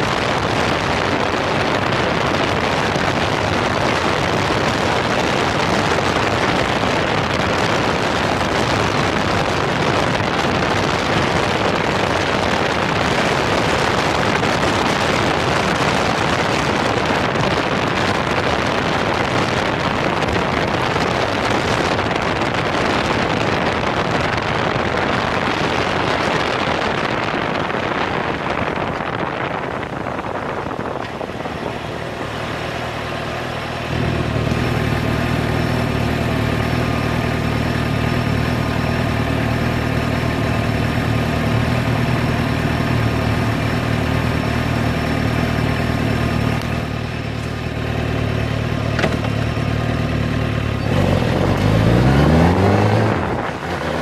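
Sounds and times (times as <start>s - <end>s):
wind rush over microphone: 0.0s - 47.8s, 48.9s - 54.0s
motorcycle engine idling and revving: 0.0s - 54.0s.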